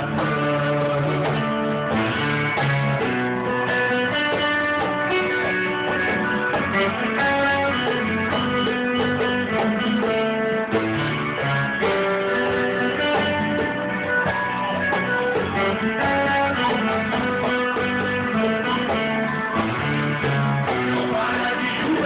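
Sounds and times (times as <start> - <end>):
bass line: 0.0 - 22.0
guitar plucked and strummed: 0.0 - 22.0.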